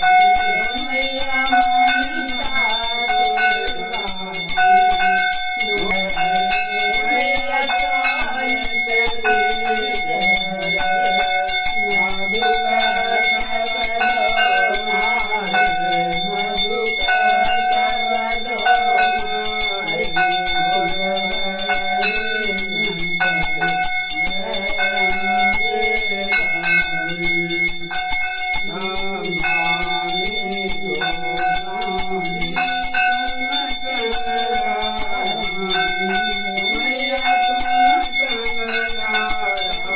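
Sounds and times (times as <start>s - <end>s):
bell ringing: 0.0s - 39.9s.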